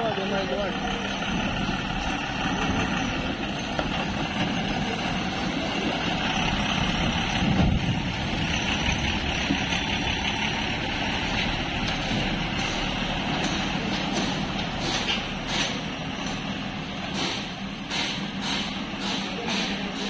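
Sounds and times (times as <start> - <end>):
diesel lorry engine running: 0.0 - 20.0.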